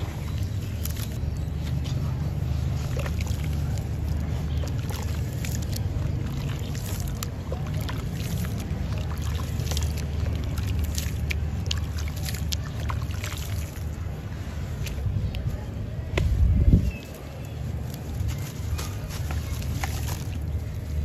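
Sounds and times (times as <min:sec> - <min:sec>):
slurry pouring and dripping: 0:00.0 - 0:15.1, 0:17.6 - 0:21.0
hands sloshing wet slurry: 0:00.0 - 0:21.0.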